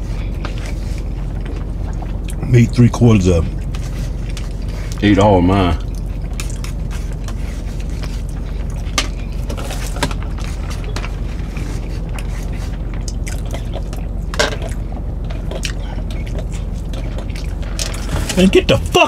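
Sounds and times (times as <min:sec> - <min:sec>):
car cabin hum: 0:00.0 - 0:19.0
person chewing: 0:00.1 - 0:02.4, 0:03.4 - 0:05.0, 0:05.8 - 0:18.1.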